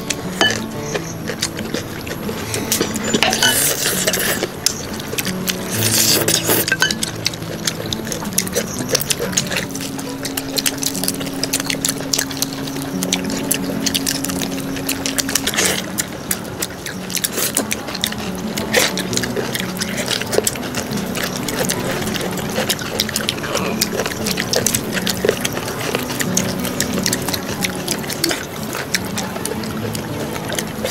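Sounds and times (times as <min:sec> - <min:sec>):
liquid pouring and splashing: 0:00.0 - 0:30.9.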